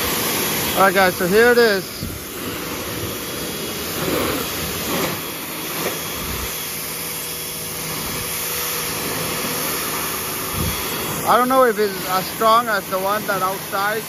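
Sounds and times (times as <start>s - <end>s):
pressure washer spraying water: 0.0s - 14.0s.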